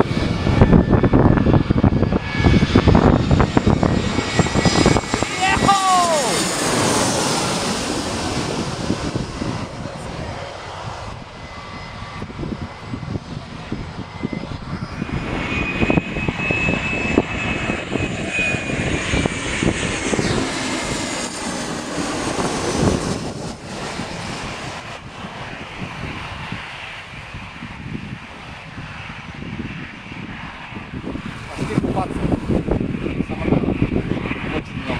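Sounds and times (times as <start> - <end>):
airplane flying overhead: 0.0 - 34.9.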